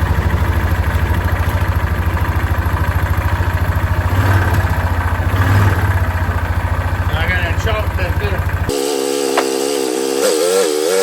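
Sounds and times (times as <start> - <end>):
engine running with knock: 0.0 - 11.0.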